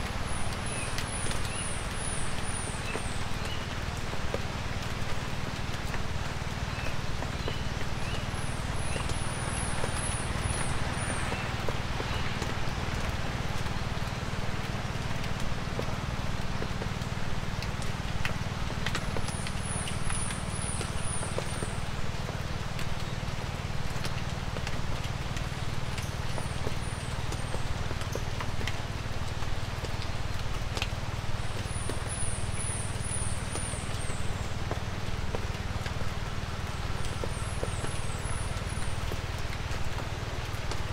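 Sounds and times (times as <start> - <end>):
light rain falling: 0.0 - 40.9
water drips: 0.0 - 40.9.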